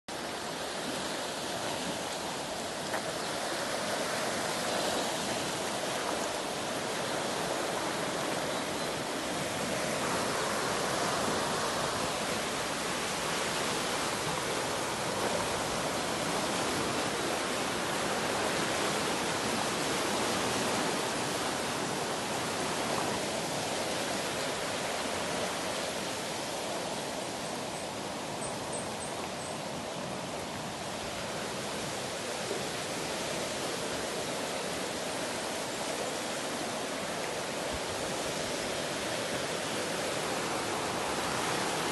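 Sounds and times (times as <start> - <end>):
floodwater rushing: 0.1 - 41.9.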